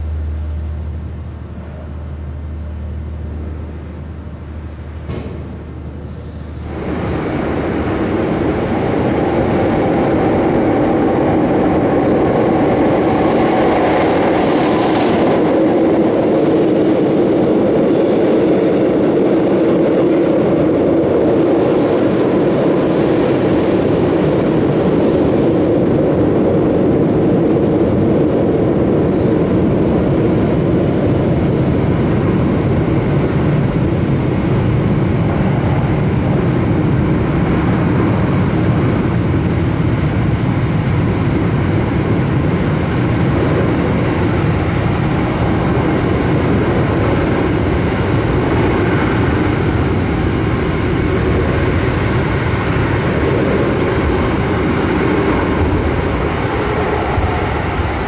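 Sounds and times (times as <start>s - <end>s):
passing train: 0.0s - 58.0s
train wheels rumbling on rails: 0.0s - 58.0s.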